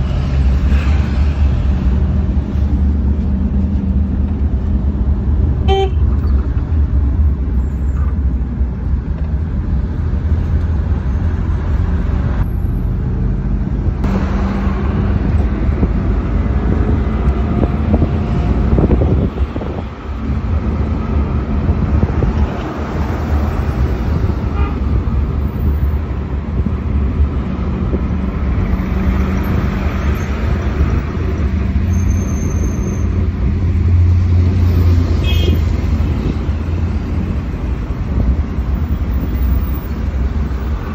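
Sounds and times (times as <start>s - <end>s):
car engine and tyre rumble: 0.0s - 40.9s
traffic passing: 0.0s - 40.9s.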